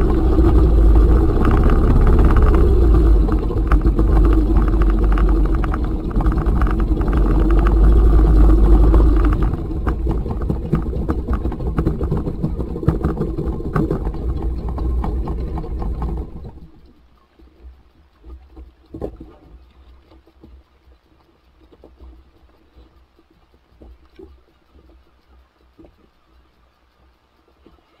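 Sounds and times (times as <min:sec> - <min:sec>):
outboard motor running: 0:00.0 - 0:28.0
water slapping against hull: 0:00.0 - 0:28.0.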